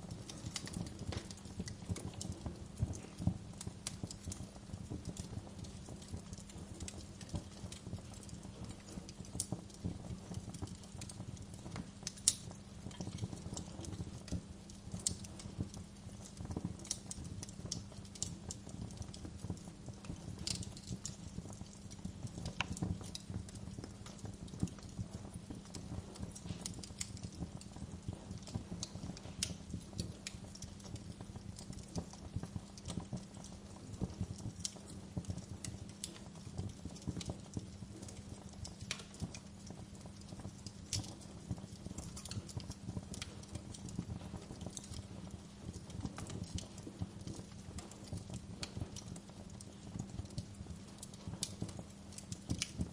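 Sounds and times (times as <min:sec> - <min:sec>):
low rumble of burning: 0:00.0 - 0:52.9
wood fire crackling: 0:00.0 - 0:52.9
sharp pops of burning wood: 0:00.2 - 0:52.9.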